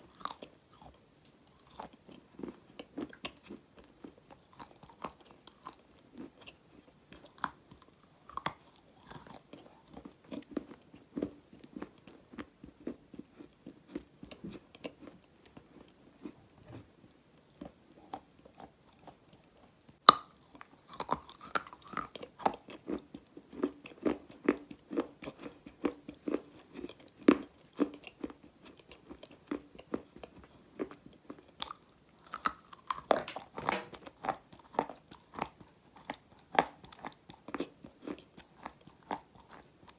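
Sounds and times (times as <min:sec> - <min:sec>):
clay being chewed crunching: 0:00.0 - 0:39.9.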